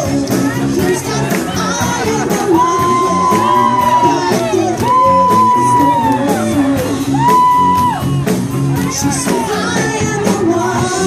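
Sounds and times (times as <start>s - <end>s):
live band playing: 0.0s - 11.0s
steady drum beat: 0.0s - 11.0s.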